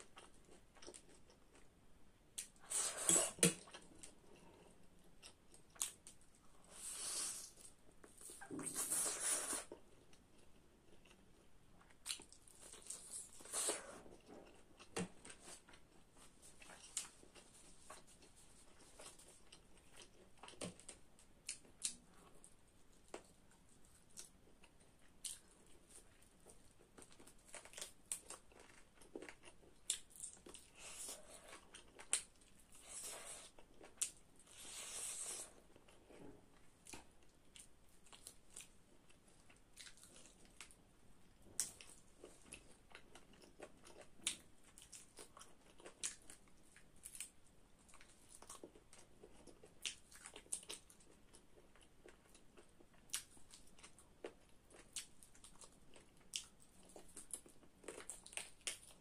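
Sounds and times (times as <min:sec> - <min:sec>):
chewing with wet clicks: 0:00.0 - 0:02.6, 0:03.5 - 0:06.4, 0:09.8 - 0:13.3, 0:19.0 - 0:34.7, 0:35.8 - 0:40.8, 0:41.4 - 0:59.0.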